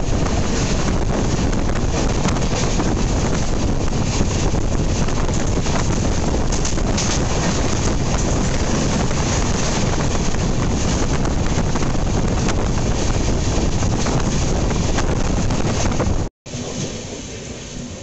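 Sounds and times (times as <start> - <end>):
train rumbling: 0.0 - 18.0
wind on microphone: 0.0 - 18.0.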